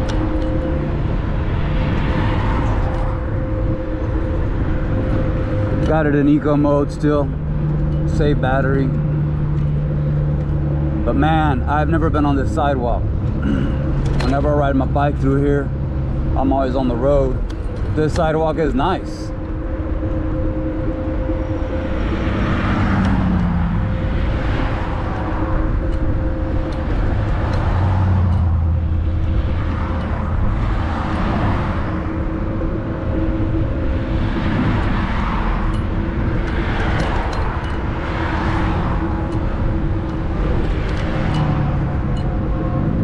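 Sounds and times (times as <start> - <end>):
wind rushing on microphone: 0.0 - 43.0.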